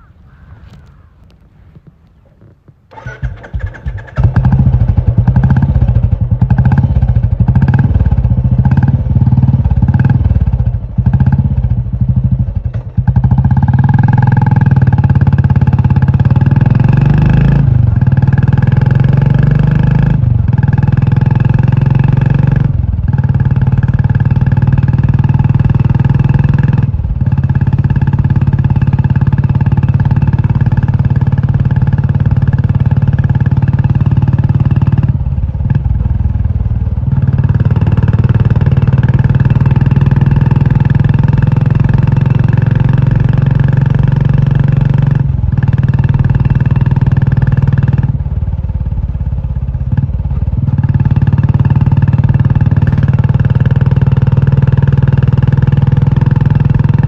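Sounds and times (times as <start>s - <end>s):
motorcycle engine revving: 2.4s - 57.0s.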